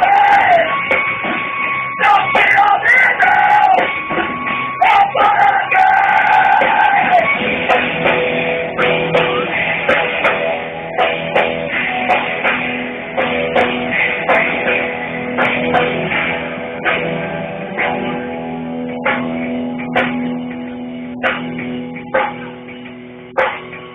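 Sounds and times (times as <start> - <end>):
drum kit: 0.0 - 23.9
electric guitars: 0.0 - 23.9.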